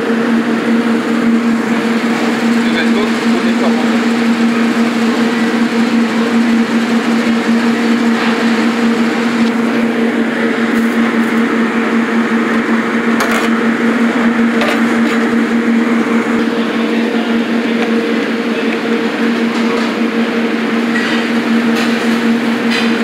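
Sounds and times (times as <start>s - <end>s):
kitchen equipment droning: 0.0s - 23.0s.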